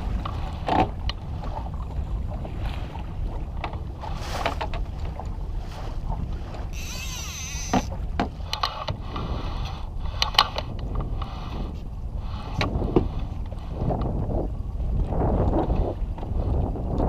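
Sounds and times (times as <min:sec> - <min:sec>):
water slapping against boat: 0:00.0 - 0:17.0
wind buffeting microphone: 0:00.0 - 0:17.0.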